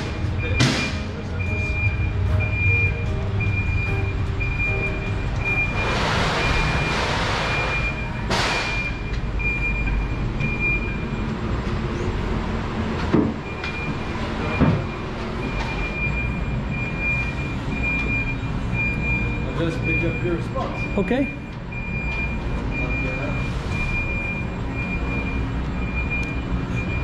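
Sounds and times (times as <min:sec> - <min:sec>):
low engine rumble: 0:00.0 - 0:27.0
warning beeper: 0:00.4 - 0:11.4, 0:13.4 - 0:27.0.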